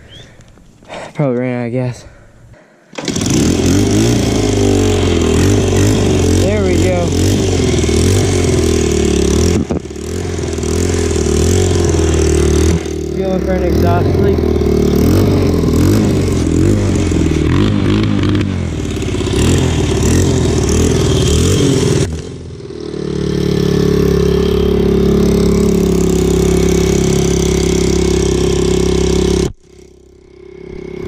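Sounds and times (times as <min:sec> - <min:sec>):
dirt bike engine revving and idling: 0:03.0 - 0:31.0.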